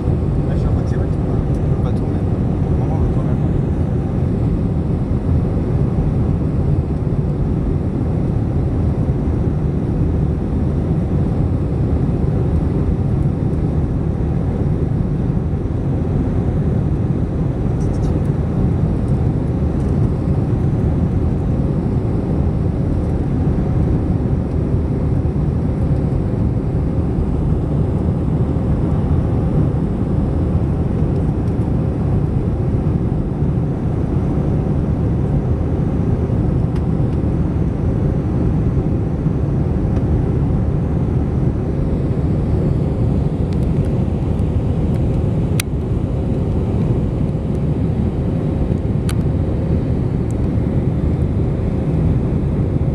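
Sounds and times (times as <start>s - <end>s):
airplane cabin engine roar: 0.0s - 52.9s.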